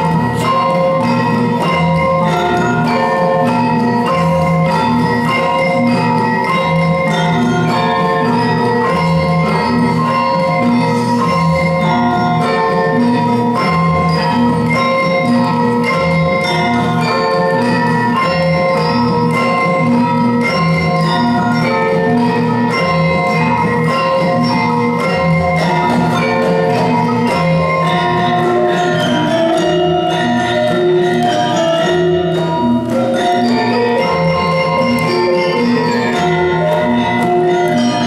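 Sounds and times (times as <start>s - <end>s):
gamelan ensemble playing: 0.0s - 38.0s.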